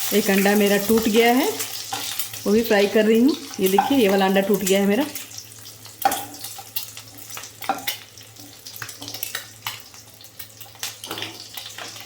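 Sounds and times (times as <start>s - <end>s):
eggs sizzling in oil: 0.0s - 12.0s.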